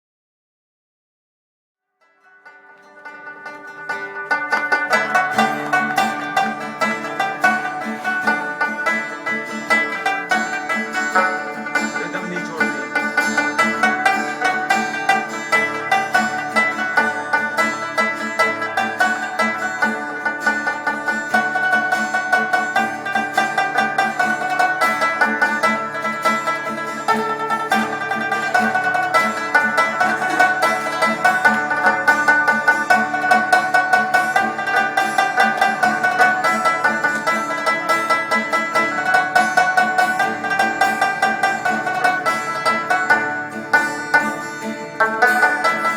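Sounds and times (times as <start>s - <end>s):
plucked lute playing fast notes: 2.1s - 45.9s.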